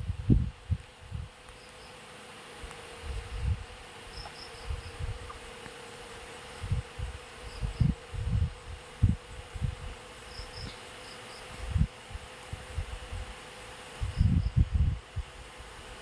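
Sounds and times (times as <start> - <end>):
insects buzzing and chirping: 0.0 - 16.0.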